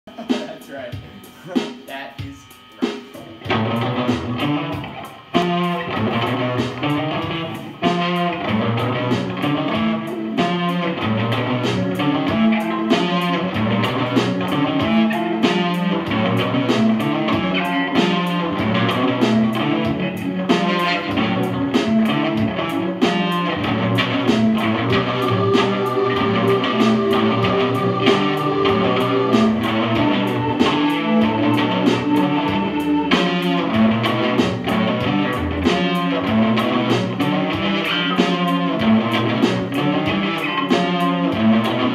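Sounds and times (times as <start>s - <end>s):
electric guitar through amp: 0.0s - 41.9s
keyboard playing: 3.3s - 41.9s.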